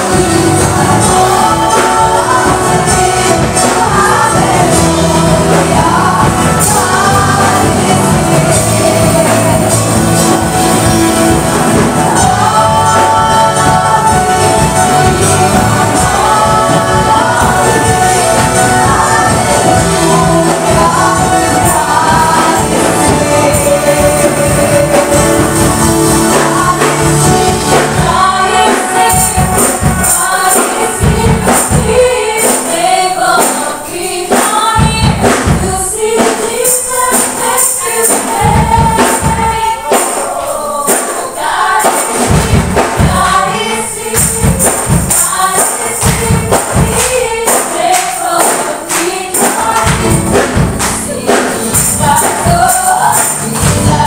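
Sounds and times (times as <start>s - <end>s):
drums and bass beat: 0.0s - 54.0s
upbeat worship song with vocals: 0.0s - 54.0s.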